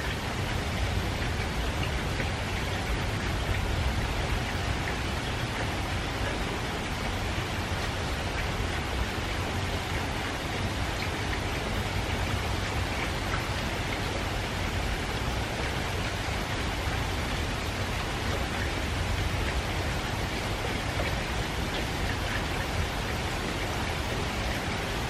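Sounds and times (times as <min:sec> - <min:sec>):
faint drip ticks: 0:00.0 - 0:25.0
light rain hiss: 0:00.0 - 0:25.0.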